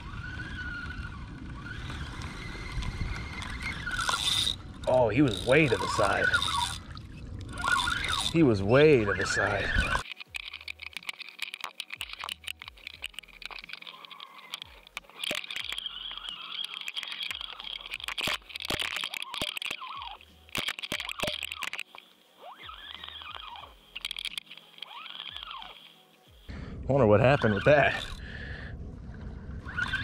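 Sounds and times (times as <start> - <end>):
underwater crackling and clicking: 0.0 - 26.5.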